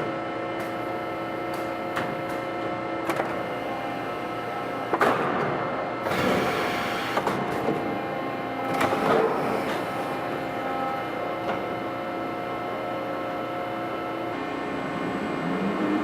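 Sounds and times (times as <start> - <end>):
machine multi-tone hum: 0.0 - 16.0.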